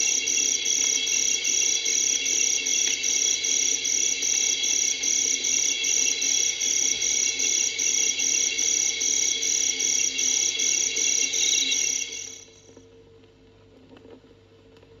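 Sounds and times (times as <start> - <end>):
insect trilling drone: 0.0 - 12.7
loud insect chirp: 0.0 - 12.7.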